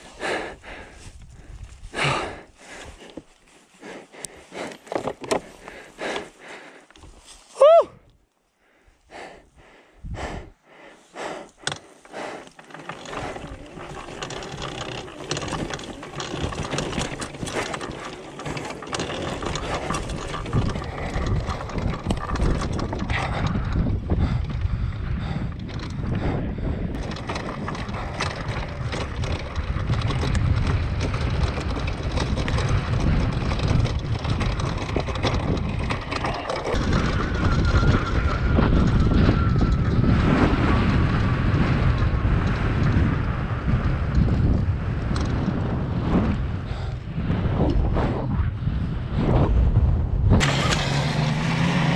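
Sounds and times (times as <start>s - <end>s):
dirt bike rattle and rush: 0.0s - 7.4s, 10.4s - 51.9s.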